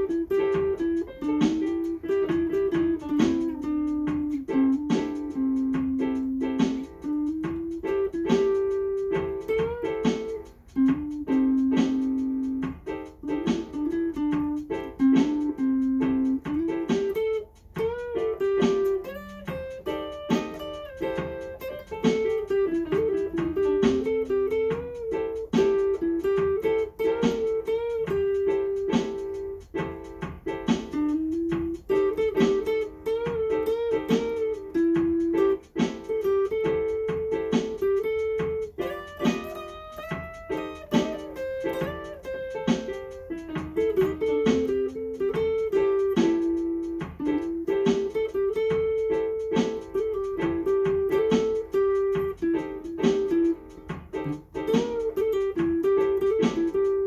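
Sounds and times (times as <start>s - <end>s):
electric guitar lead line: 0.0s - 30.0s, 30.7s - 57.0s.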